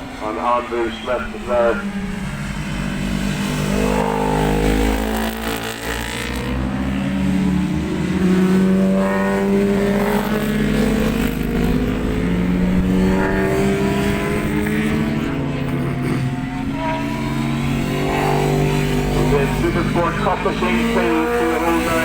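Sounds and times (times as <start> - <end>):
motorcycle engines at high revs: 0.0 - 22.0.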